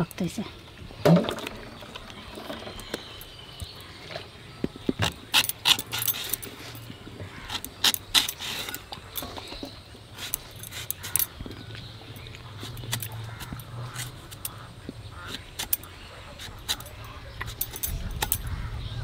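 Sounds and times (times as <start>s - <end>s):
bangles clinking: 1.4s - 3.8s, 5.1s - 11.4s, 12.0s - 18.6s.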